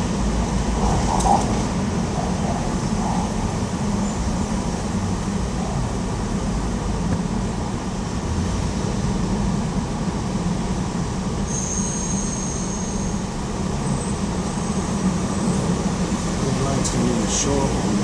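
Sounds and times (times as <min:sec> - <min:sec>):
low rumble of heavy traffic: 0:00.0 - 0:18.0.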